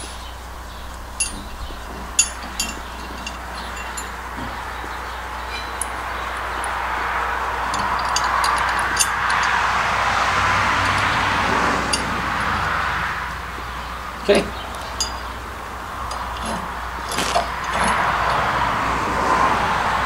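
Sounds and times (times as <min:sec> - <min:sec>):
metal washers clinking: 0:00.0 - 0:18.8.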